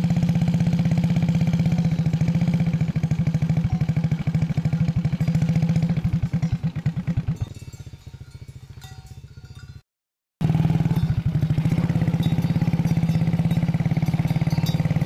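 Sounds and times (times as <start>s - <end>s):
small engine running: 0.0s - 9.8s, 10.4s - 15.0s.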